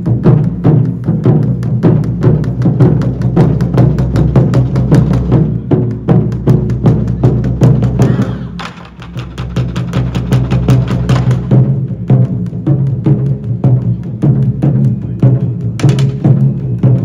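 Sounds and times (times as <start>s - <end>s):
taiko drums beating: 0.0s - 17.0s.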